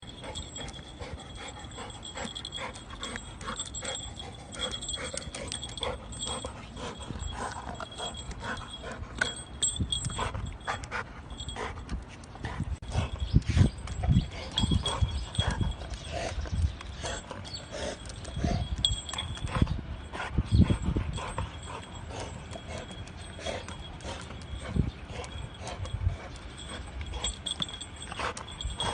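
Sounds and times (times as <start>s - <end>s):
dog panting: 0.0s - 28.9s.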